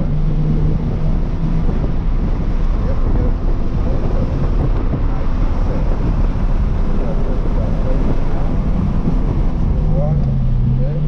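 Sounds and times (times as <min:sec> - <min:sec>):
car engine from inside cabin: 0:00.0 - 0:11.0
tyre and wind noise: 0:00.0 - 0:11.0.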